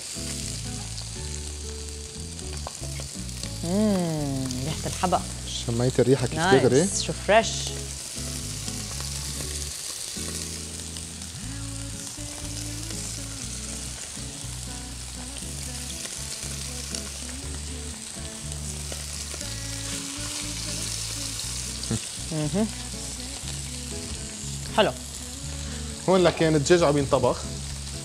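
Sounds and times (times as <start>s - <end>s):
chicken sizzling in frying pan: 0.0s - 28.0s
low background music: 0.0s - 28.0s.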